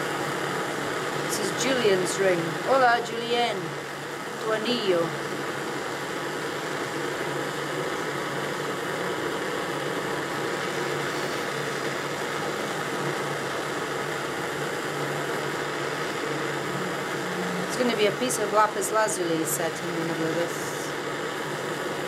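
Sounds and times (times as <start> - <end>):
gas torch flame rushing: 0.0 - 22.0.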